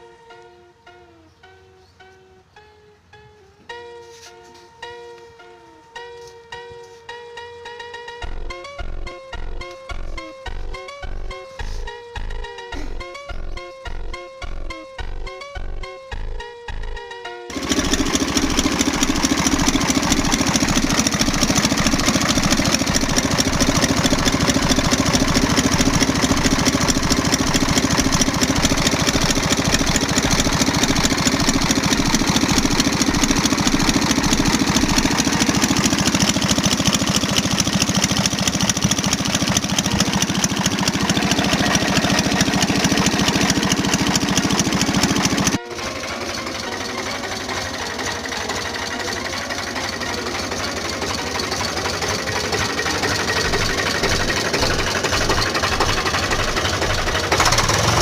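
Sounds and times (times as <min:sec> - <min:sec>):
tractor diesel engine running: 0:07.6 - 0:16.4, 0:17.5 - 0:58.0.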